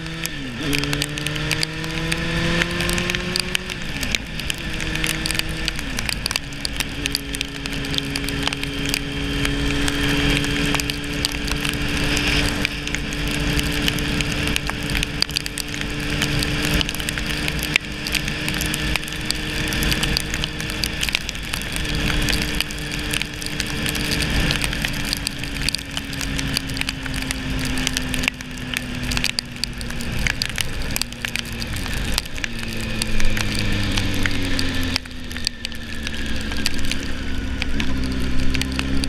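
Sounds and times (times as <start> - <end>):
raindrops ticking on camera: 0.0 - 39.0
tyre hiss on wet road: 6.8 - 39.0.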